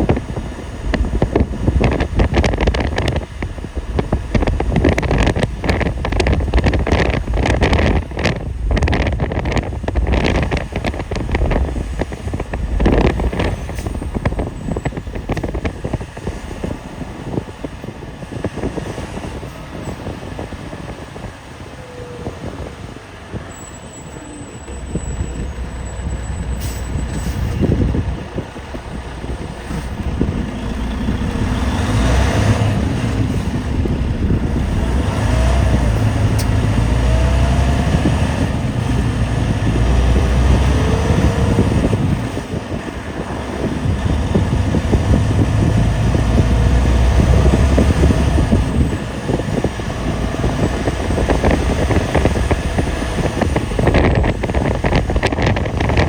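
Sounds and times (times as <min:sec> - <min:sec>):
vehicle engine and road rumble: 0:00.0 - 0:56.0
wind buffeting microphone: 0:00.0 - 0:56.0.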